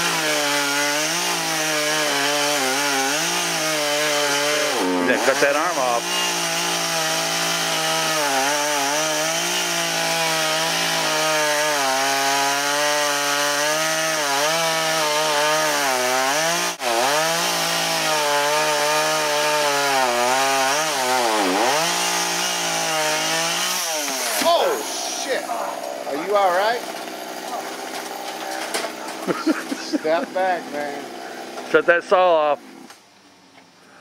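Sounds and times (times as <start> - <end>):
chainsaw cutting wood: 0.0 - 32.0, 32.6 - 33.0.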